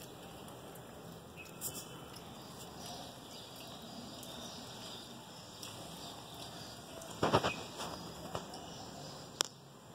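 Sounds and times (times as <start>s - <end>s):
small ticks: 0.0s - 8.8s
light rain hiss: 0.0s - 9.9s
water dripping from drain pipe: 0.0s - 9.9s.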